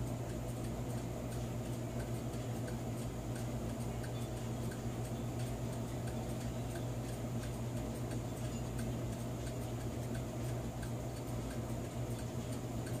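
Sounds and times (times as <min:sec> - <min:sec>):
clock gear ticking: 0:00.0 - 0:13.0
electric clock motor hum: 0:00.0 - 0:13.0.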